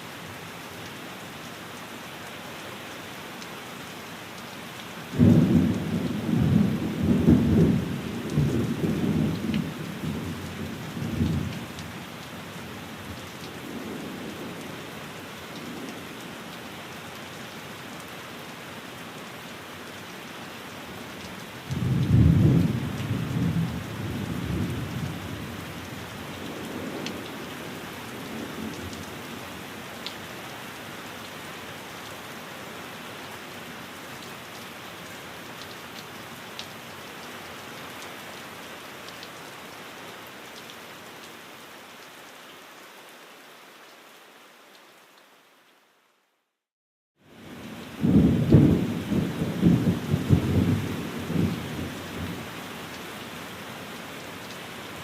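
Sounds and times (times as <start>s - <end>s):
rain on a window: 0.0s - 46.5s, 47.2s - 55.0s.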